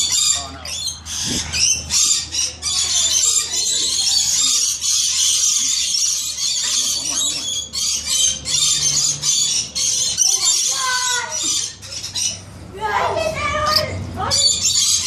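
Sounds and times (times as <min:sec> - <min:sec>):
parrots screeching: 0:00.0 - 0:12.5, 0:13.1 - 0:15.0.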